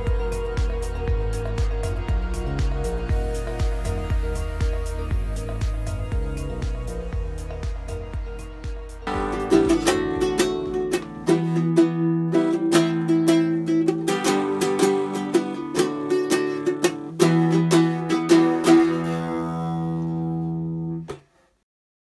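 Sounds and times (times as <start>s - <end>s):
nylon-string guitar strummed: 0.0s - 21.2s.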